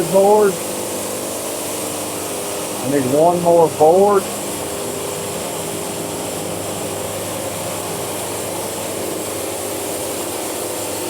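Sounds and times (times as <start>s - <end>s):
faint steady hum: 0.0s - 9.4s
band sawmill running: 0.0s - 11.0s.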